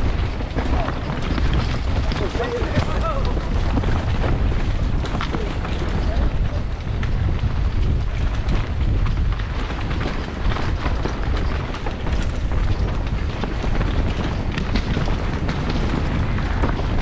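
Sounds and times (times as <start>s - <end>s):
bike rattling and clattering: 0.0s - 17.0s
tyres rumbling on dirt and rocks: 0.0s - 17.0s
wind buffeting microphone: 0.0s - 17.0s.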